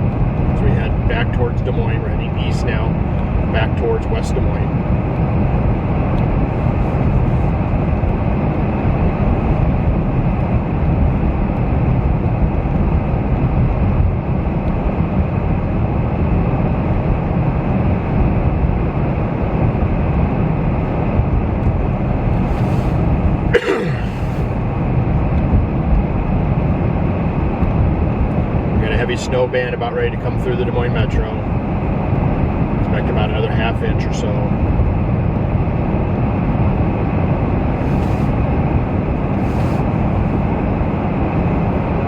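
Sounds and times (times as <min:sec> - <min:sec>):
car engine: 0:00.0 - 0:42.0
road noise inside car: 0:00.0 - 0:42.0.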